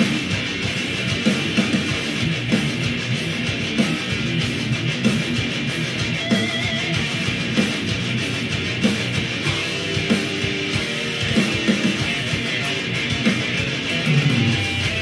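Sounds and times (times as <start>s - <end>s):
loud heavy rock guitar: 0.0s - 15.0s.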